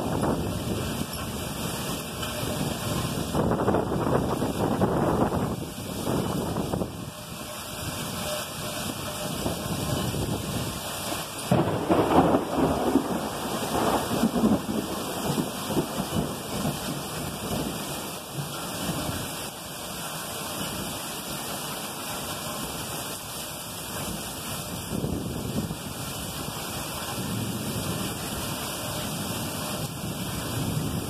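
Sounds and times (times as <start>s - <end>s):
thunder rumbling: 0.0s - 19.5s, 24.0s - 31.0s
heavy rain pouring off a roof: 0.0s - 31.0s.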